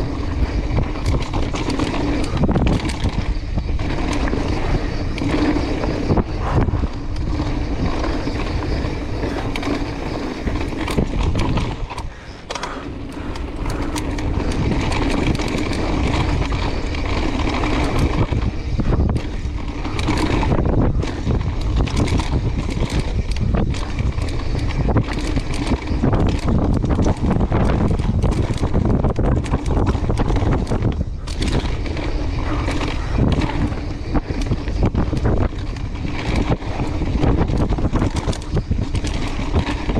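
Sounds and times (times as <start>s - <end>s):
bike rattles and knocks: 0.0s - 39.9s
bike tyres crunching over stones: 0.0s - 39.9s.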